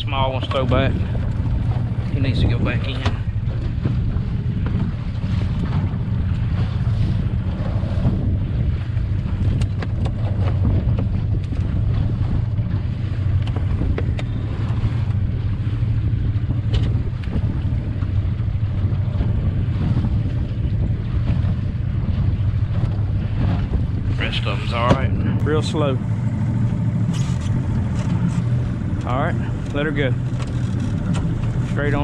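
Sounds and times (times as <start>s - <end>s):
boat engine low rumble: 0.0s - 32.0s.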